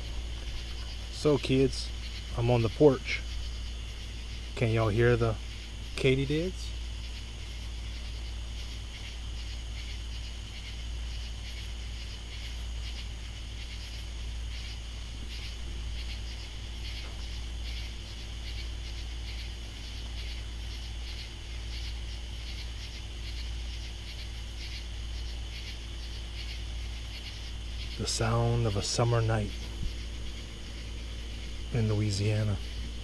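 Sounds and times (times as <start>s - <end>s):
katydids calling: 0.0s - 33.0s
low steady hum: 0.0s - 33.0s.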